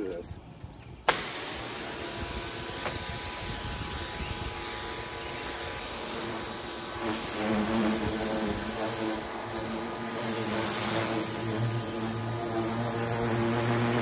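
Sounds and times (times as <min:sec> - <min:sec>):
pressure washer motor hum: 0:01.1 - 0:14.0
water jet hissing: 0:01.1 - 0:14.0.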